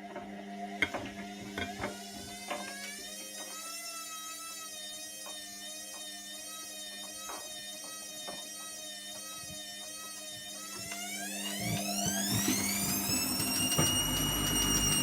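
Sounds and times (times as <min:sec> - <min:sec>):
washing machine motor humming: 0:00.0 - 0:03.5, 0:04.8 - 0:15.0.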